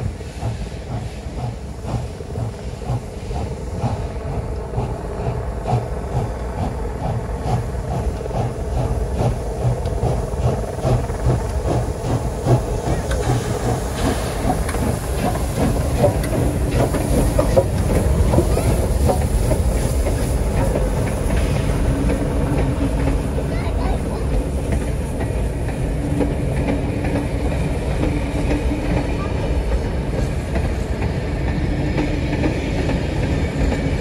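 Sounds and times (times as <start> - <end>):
hiss of steam: 0.0 - 34.0
steam train rhythmic clatter: 0.0 - 34.0.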